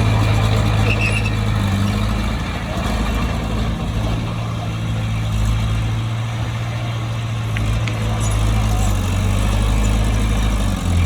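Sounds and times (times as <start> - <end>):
heavy machine engine humming: 0.0 - 11.0.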